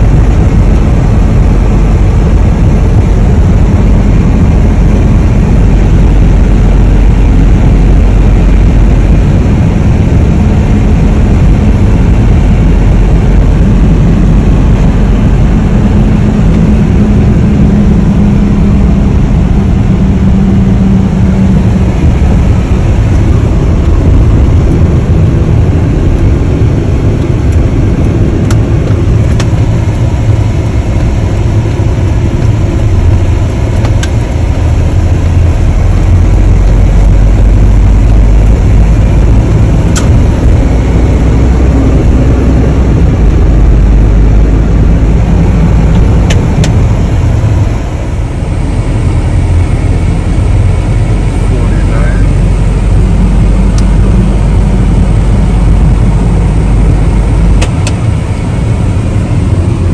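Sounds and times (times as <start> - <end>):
vehicle engine and road rumble: 0.0 - 59.9.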